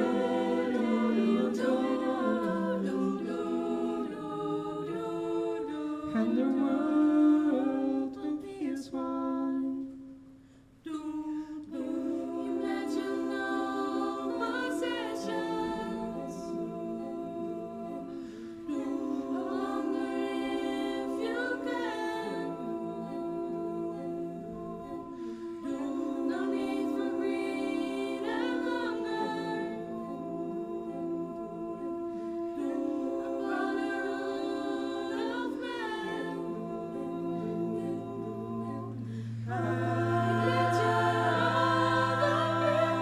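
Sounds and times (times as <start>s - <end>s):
choir singing a cappella: 0.0s - 43.0s.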